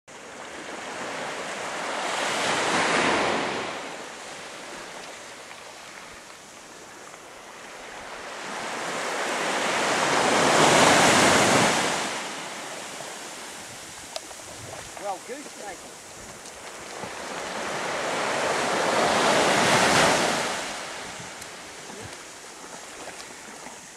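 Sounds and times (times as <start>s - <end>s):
sea waves washing: 0.2s - 23.9s.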